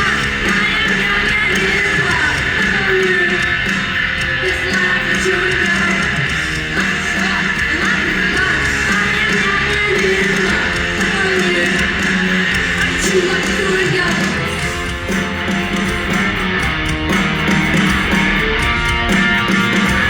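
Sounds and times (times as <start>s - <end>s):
punk rock band playing: 0.0s - 20.0s
strummed electric guitars: 0.0s - 20.0s.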